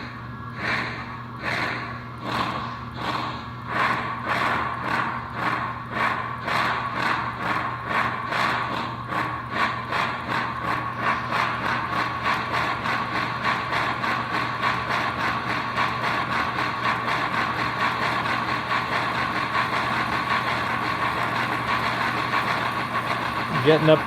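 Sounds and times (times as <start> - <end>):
model steam locomotive chuffing: 0.0 - 24.0
steady low hum: 0.0 - 24.0.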